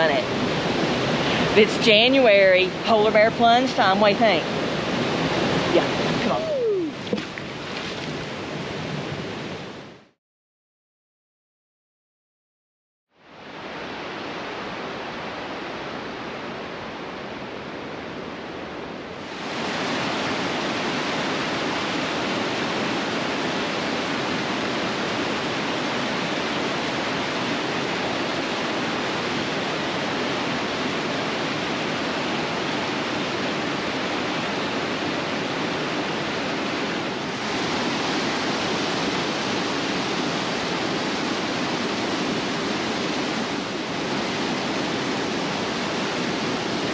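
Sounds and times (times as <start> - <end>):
creek rushing over rapids: 0.0 - 9.9, 13.2 - 46.9.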